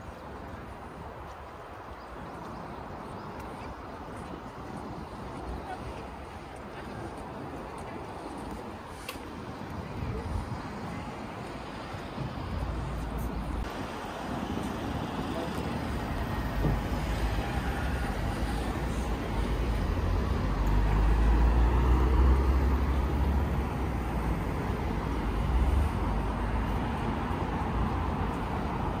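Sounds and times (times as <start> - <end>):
cars passing on street: 0.0 - 29.0.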